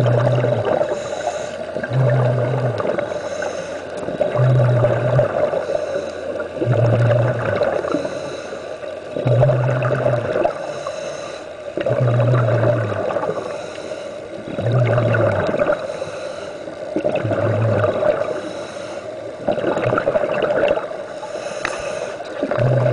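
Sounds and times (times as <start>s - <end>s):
scuba regulator inhalations: 0.0s - 19.4s, 21.0s - 22.9s
exhaled bubbles underwater: 0.0s - 22.9s.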